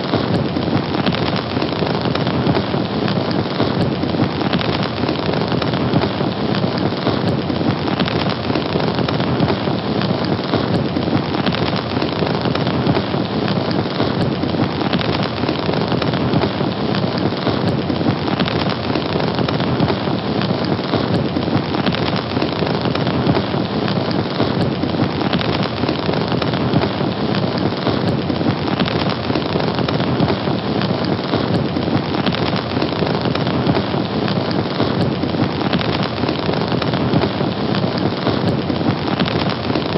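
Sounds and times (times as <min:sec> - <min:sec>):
fire crackling and hissing: 0:00.0 - 0:39.9.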